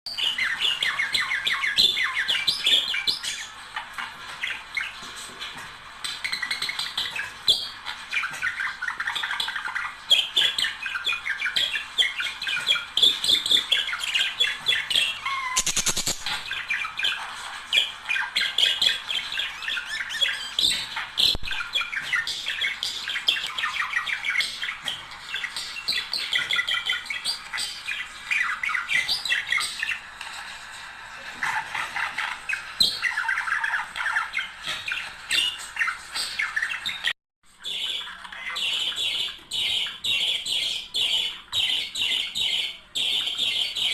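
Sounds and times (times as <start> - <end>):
many birds chirping: 0.1 - 30.5, 31.2 - 43.9.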